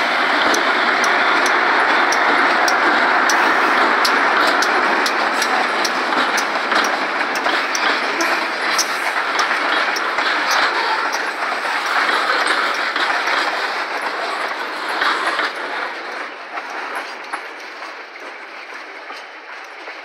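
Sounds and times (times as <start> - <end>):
freight train rolling past: 0.0 - 20.0
train wheels clicking over rail joints: 0.0 - 20.0.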